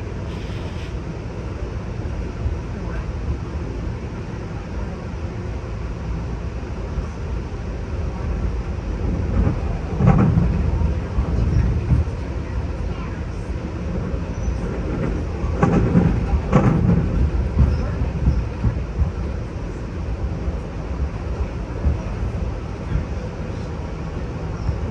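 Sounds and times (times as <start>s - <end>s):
train wheels rumbling on track: 0.0s - 24.9s.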